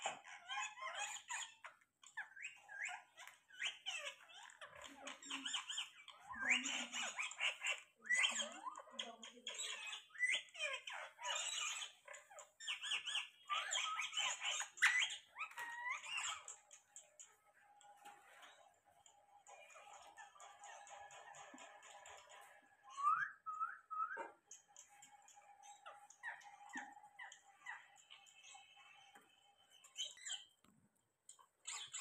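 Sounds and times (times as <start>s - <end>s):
parakeets chattering: 0.0s - 30.7s, 31.3s - 32.0s.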